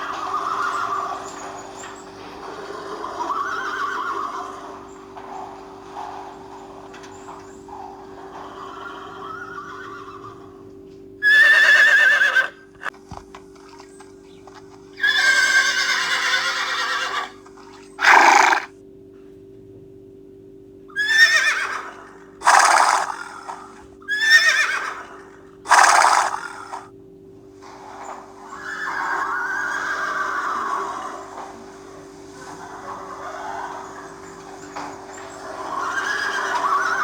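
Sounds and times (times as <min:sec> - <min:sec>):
horse whinnying: 0:00.0 - 0:12.9, 0:15.0 - 0:18.7, 0:20.9 - 0:26.9, 0:28.4 - 0:37.0.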